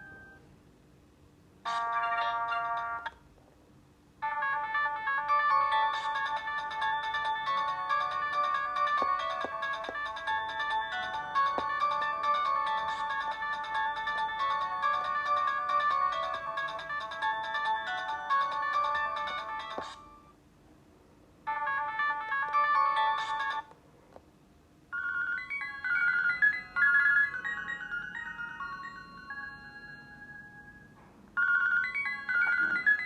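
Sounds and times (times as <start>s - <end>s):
electronic ringtone melody: 0.0s - 0.4s, 1.7s - 3.1s, 4.2s - 20.3s, 21.5s - 23.7s, 24.9s - 33.0s.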